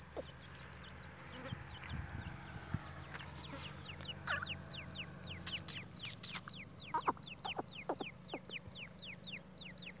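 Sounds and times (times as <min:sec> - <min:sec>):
chick peeping chirps: 0:00.0 - 0:10.0
lower downward bird calls: 0:00.0 - 0:10.0.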